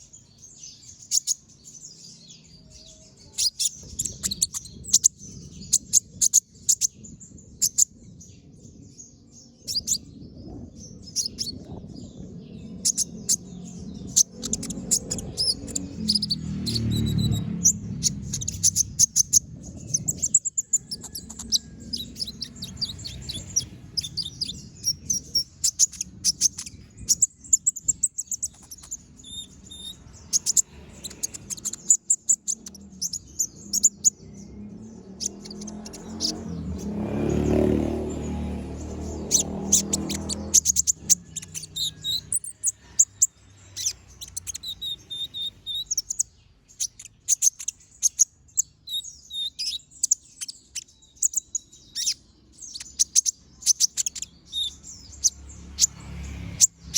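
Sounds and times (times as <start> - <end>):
bird singing high chirps: 0.0 - 56.9.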